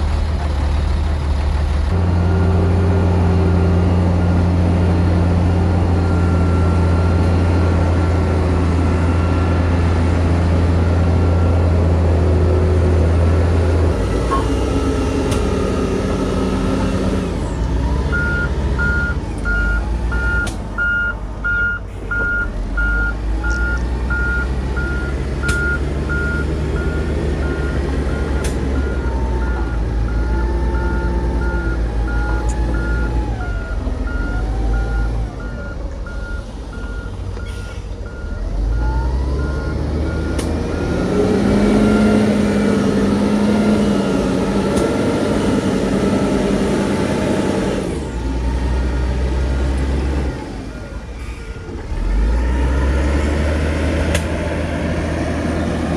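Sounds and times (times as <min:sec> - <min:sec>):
diesel engines running: 0:00.0 - 0:55.9
reversing alarm beeping: 0:02.0 - 0:12.3, 0:13.5 - 0:48.2.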